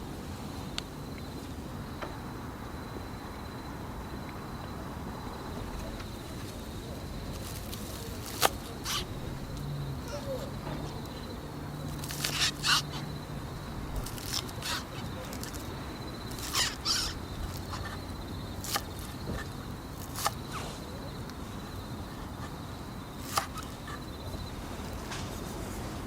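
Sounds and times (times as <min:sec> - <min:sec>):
wood campfire crackling: 0:04.2 - 0:26.0.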